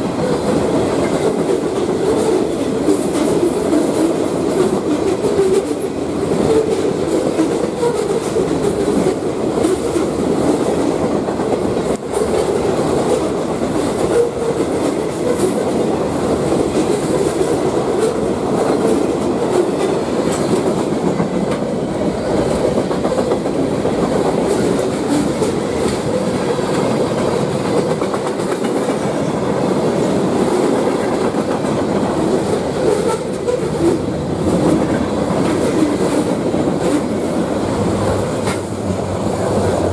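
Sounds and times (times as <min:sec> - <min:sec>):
steel wheels on rails: 0:00.0 - 0:39.9.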